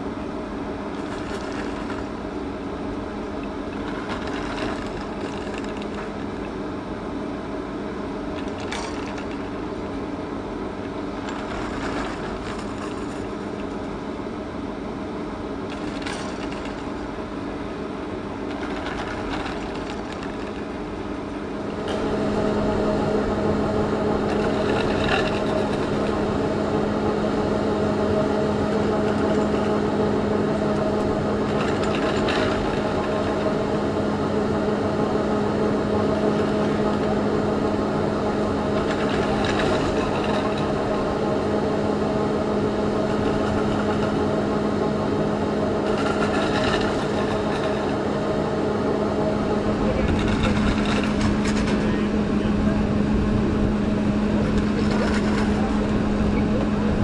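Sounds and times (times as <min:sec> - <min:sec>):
ski lift machinery humming: 0:00.0 - 0:57.0.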